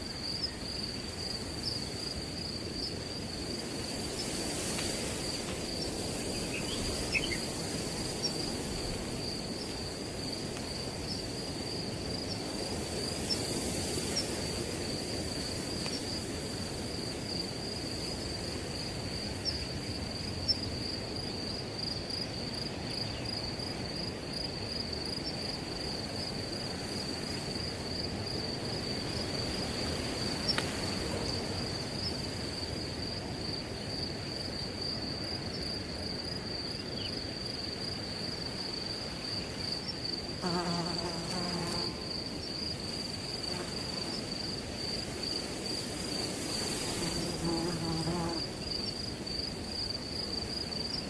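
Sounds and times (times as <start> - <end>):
crickets trilling: 0.0 - 51.0
wind through grass: 0.0 - 51.0.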